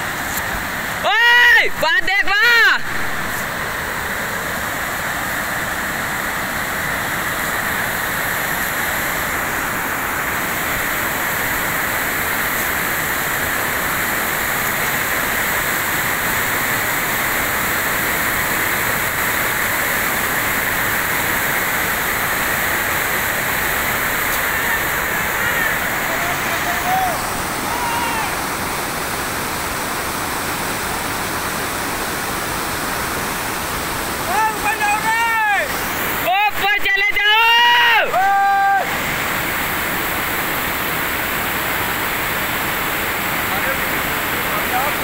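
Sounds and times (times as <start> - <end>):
floodwater rushing over rocks: 0.0 - 45.0.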